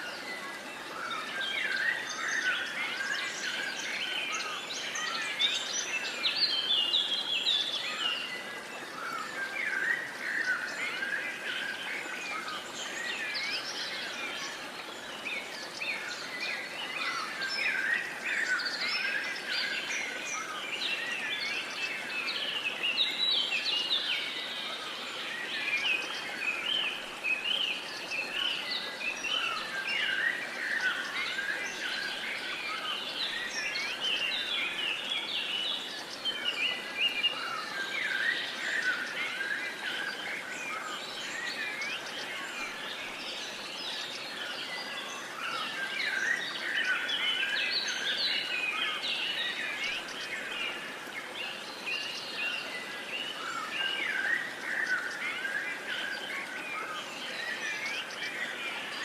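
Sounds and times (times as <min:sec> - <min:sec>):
songbirds singing and chirping: 0:00.0 - 0:59.0
steady outdoor hiss: 0:00.0 - 0:59.0.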